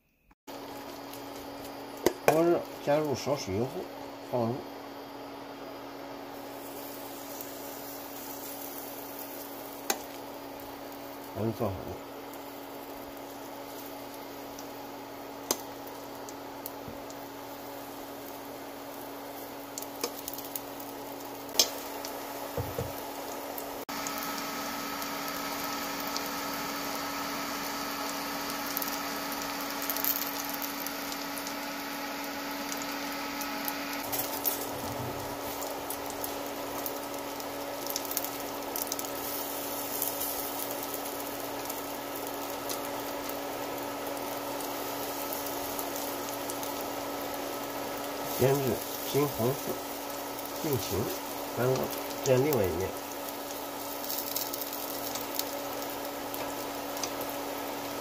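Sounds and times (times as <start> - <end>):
pancakes sizzling in oil: 0.5 - 58.0.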